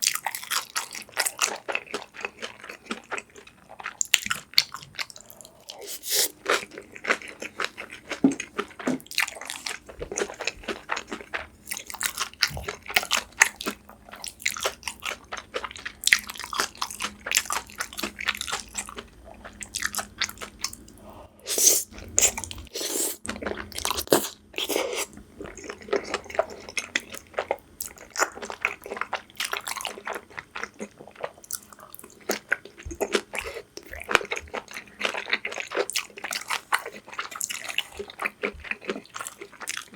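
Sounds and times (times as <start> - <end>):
crunchy bites and wet chewing: 0.0 - 20.9, 21.6 - 39.9.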